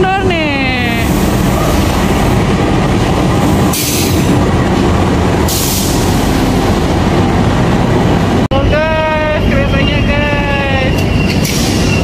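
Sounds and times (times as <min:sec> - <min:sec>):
diesel locomotive engine rumbling: 0:00.0 - 0:12.0
train wheels on rails: 0:00.8 - 0:08.5, 0:09.8 - 0:12.0.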